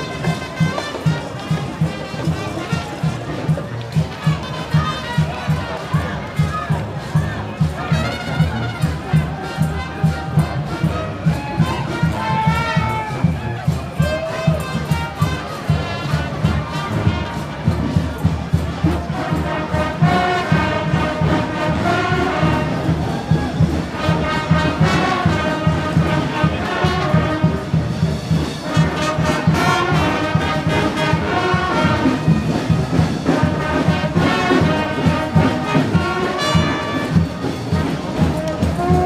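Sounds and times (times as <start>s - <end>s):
brass band playing: 0.0s - 39.0s.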